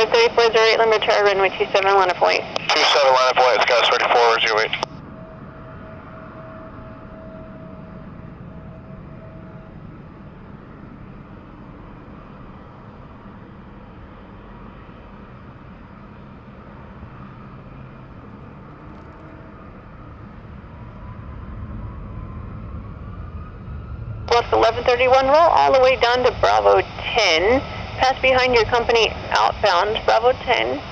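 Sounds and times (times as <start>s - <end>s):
distant jet engines rumbling: 0.0s - 30.9s.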